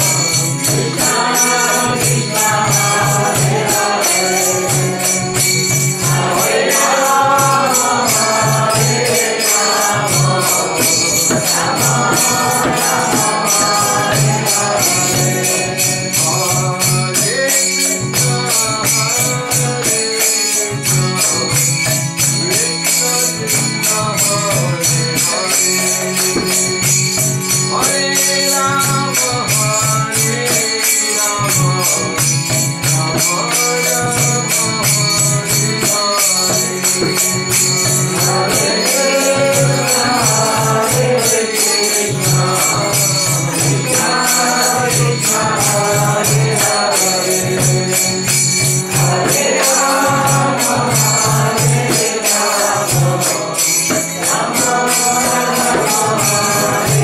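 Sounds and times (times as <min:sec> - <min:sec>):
man singing devotional song: 0:00.0 - 0:57.0.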